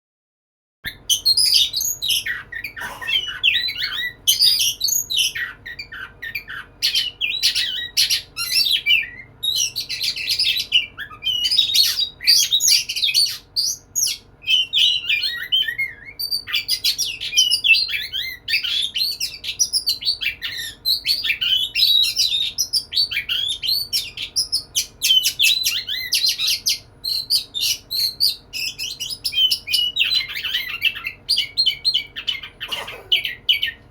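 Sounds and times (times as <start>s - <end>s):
magpie-robin singing: 0.9s - 33.9s.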